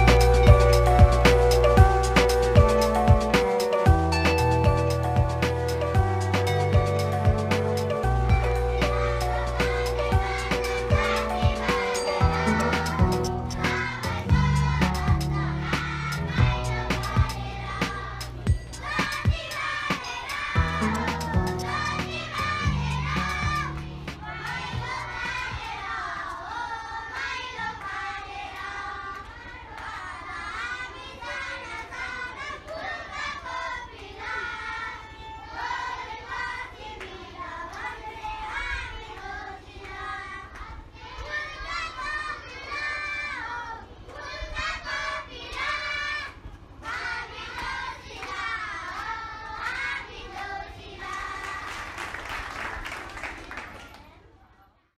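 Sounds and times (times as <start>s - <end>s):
children singing: 0.0s - 51.7s.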